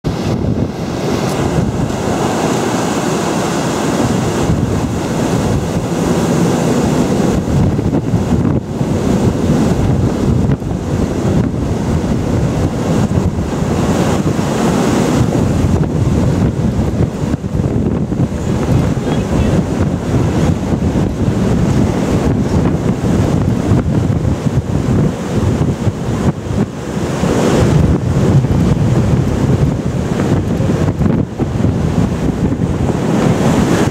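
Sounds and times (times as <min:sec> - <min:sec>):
breaking sea along ship hull: 0:00.0 - 0:33.9
strong wind buffeting microphone: 0:00.0 - 0:33.9.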